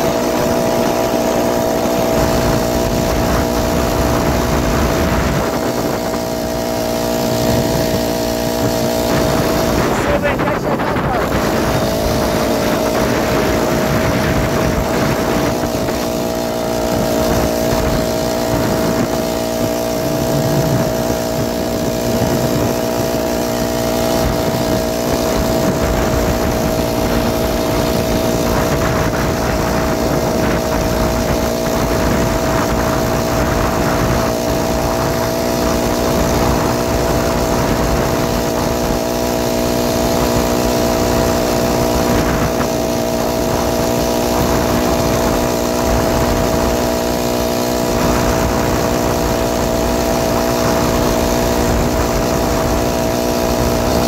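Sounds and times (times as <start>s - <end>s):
motorized bicycle engine running: 0.0s - 54.0s.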